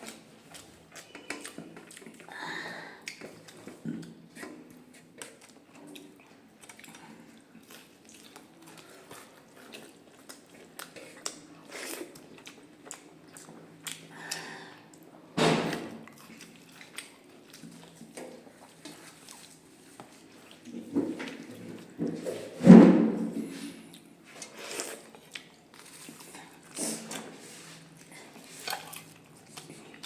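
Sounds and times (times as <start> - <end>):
chewing and mouth noises: 0.0 - 15.1, 16.0 - 22.0, 23.8 - 30.0.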